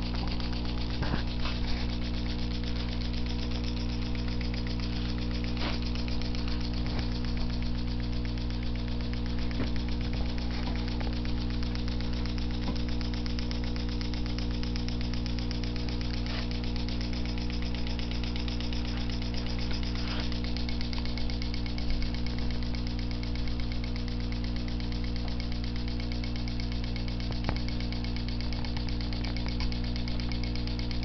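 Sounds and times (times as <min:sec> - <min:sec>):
model steam engine ticking: 0:00.0 - 0:31.0
steady hum: 0:00.0 - 0:31.0.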